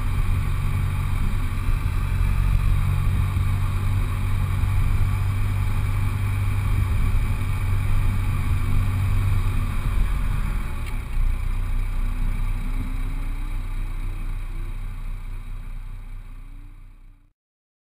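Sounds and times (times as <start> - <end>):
car engine rumbling at low speed: 0.0 - 17.3.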